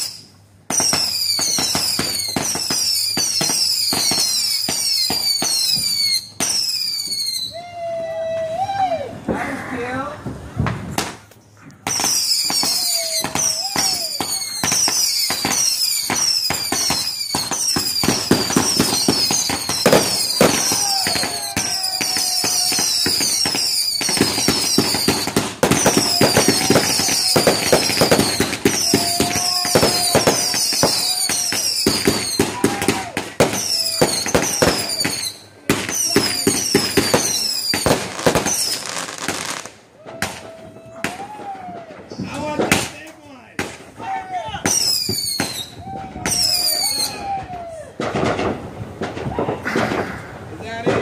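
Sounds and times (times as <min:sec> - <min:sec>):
fireworks falling whistles: 0:00.0 - 0:07.7, 0:11.8 - 0:42.8, 0:44.6 - 0:50.4
fireworks crackling and popping: 0:00.0 - 0:51.0.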